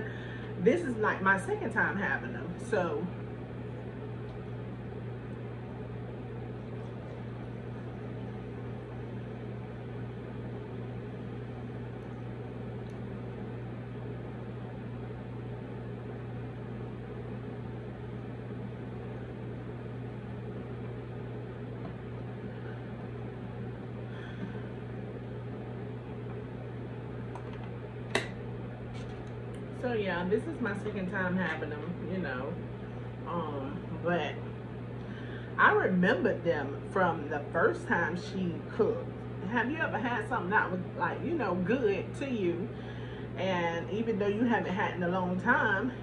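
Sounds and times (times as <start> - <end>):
low hum with hiss: 0.0 - 46.0.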